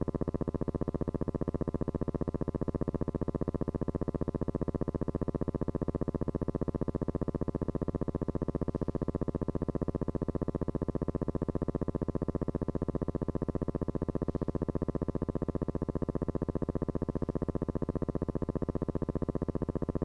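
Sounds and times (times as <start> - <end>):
pulsing buzzing tone: 0.0 - 20.0.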